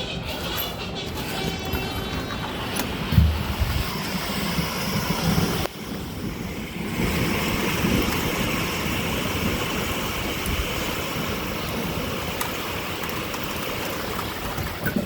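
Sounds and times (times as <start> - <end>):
rain hissing: 2.6 - 14.8
wind buffeting microphone: 2.6 - 15.0.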